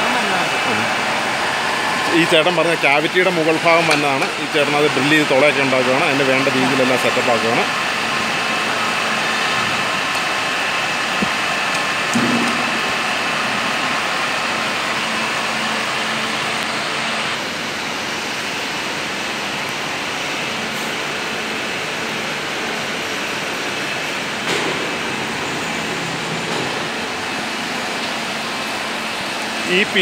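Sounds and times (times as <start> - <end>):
workshop noise: 0.0 - 17.7, 20.5 - 30.0
drilling machine hum and whine: 0.0 - 30.0.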